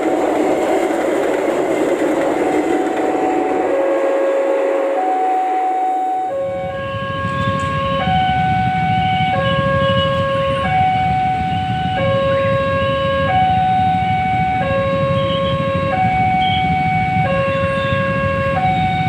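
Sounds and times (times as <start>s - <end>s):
level crossing alarm tones: 2.8s - 19.0s.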